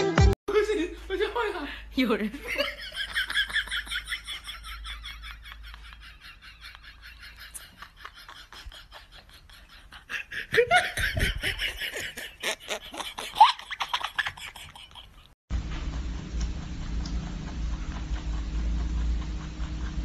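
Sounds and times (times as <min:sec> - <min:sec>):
person laughing: 0:02.4 - 0:15.4, 0:16.8 - 0:20.0.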